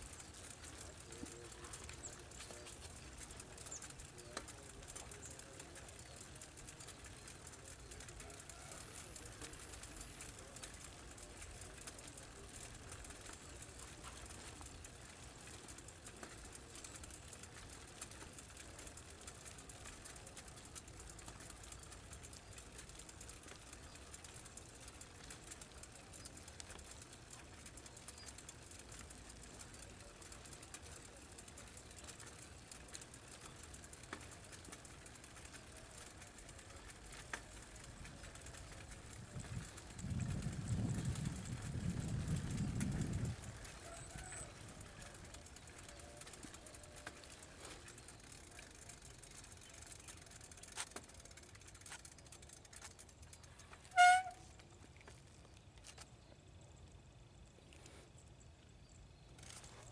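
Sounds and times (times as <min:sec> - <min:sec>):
small ticks: 0:00.0 - 0:59.9.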